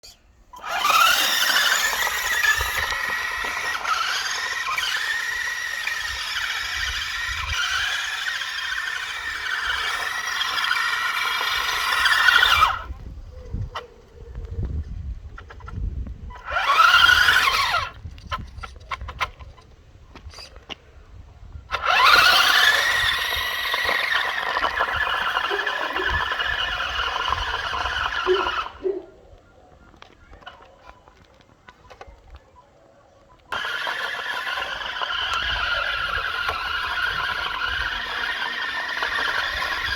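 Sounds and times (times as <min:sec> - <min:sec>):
electric toy car motor whining: 0:00.5 - 0:20.8, 0:21.4 - 0:29.1, 0:33.5 - 0:39.9.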